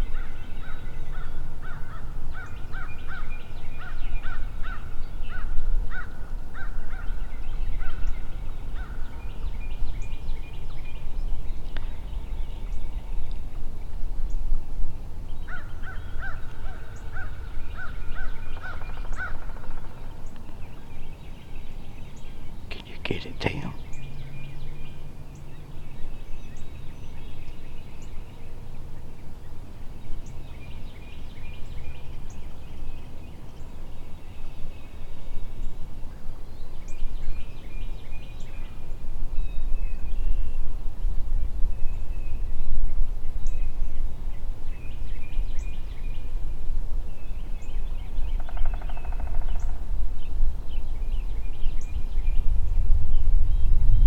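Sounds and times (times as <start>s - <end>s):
wind rumble on microphone: 0.0s - 23.2s, 23.8s - 54.0s.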